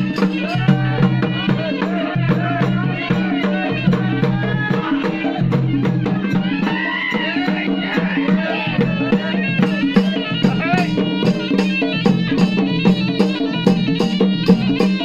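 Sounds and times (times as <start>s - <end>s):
quick drum beats: 0.0s - 15.0s
reedy wind instrument melody: 0.0s - 15.0s.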